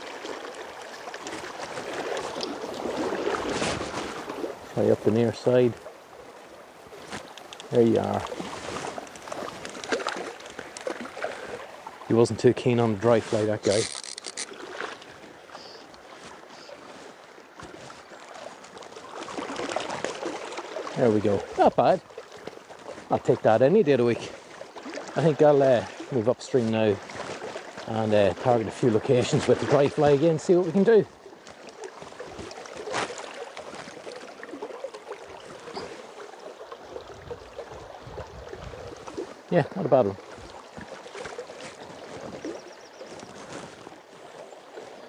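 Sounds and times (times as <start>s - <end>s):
light water splashes: 0.0s - 45.0s
river water rushing: 0.0s - 45.0s.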